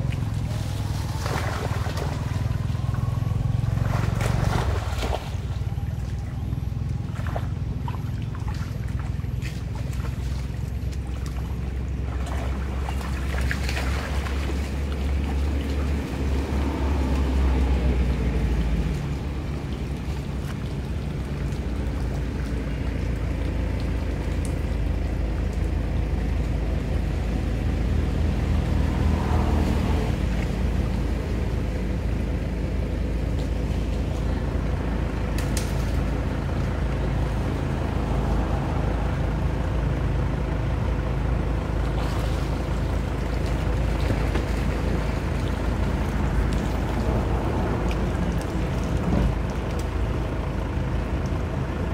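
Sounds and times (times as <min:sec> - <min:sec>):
steady low rumble: 0:00.0 - 0:51.9
water sloshing and splashing: 0:00.0 - 0:51.9.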